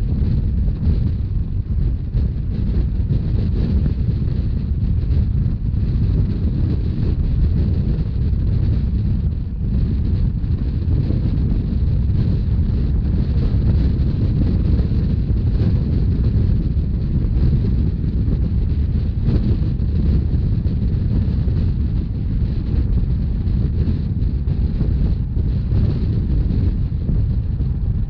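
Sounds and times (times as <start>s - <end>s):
train rumbling at speed: 0.0s - 28.0s
wind on microphone: 0.0s - 28.0s.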